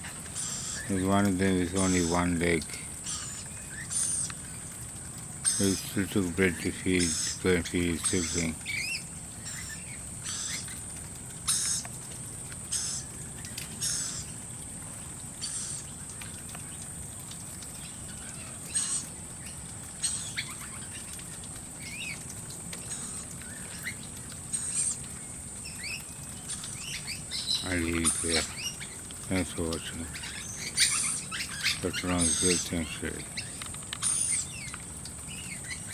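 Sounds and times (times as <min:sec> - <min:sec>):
wild birds calling and chirping: 0:00.0 - 0:35.9.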